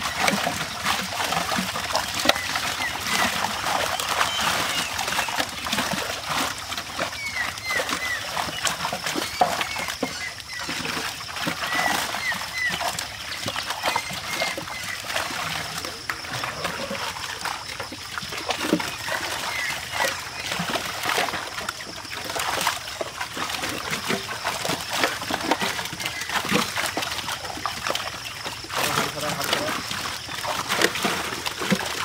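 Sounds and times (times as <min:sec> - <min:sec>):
fish thrashing in water: 0:00.0 - 0:32.0.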